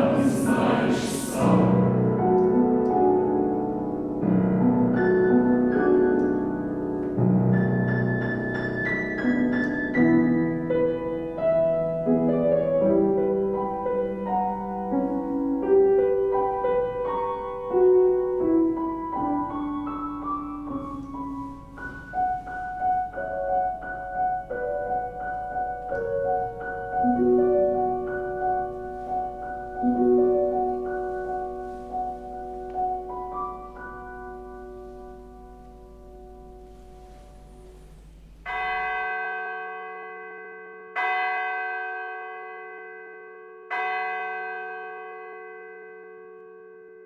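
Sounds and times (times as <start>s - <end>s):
slow piano passage: 0.0s - 40.2s.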